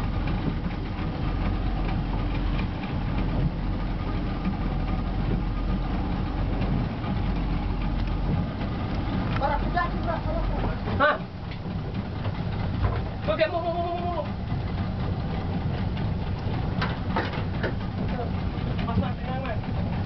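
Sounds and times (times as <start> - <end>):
outboard motors rumbling: 0.0 - 20.0
water noise: 0.0 - 20.0
wind: 0.0 - 20.0.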